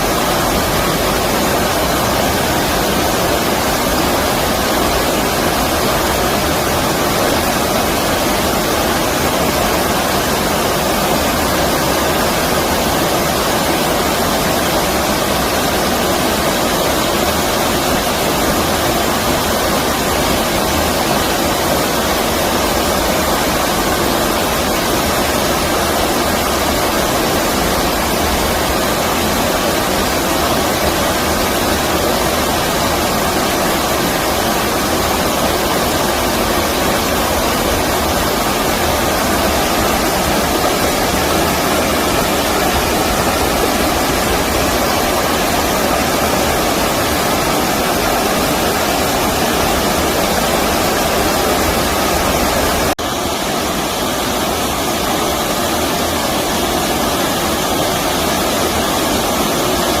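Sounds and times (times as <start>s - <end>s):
stream water flowing: 0.0s - 60.0s.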